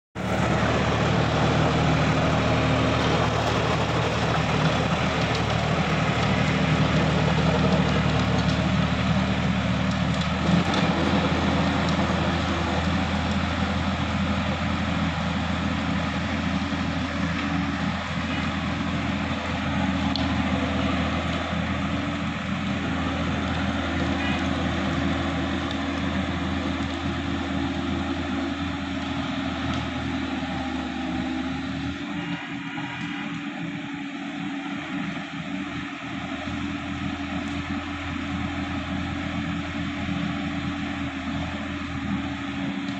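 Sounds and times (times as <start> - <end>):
tractor diesel engine running: 0.1 - 42.9.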